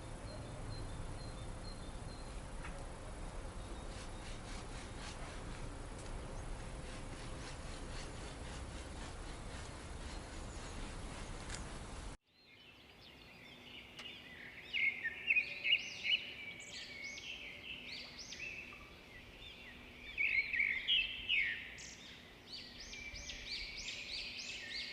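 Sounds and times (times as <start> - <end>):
songbirds chirping: 0.0 - 6.9, 9.6 - 24.9.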